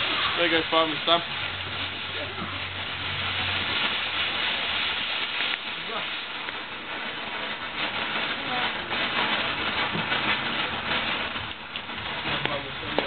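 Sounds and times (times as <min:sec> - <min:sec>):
firework hissing and crackling: 0:00.0 - 0:13.0.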